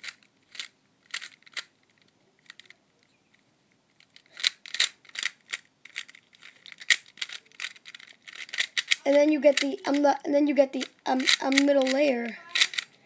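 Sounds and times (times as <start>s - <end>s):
plastic puzzle cube clacking: 0.0s - 3.1s, 3.9s - 13.0s.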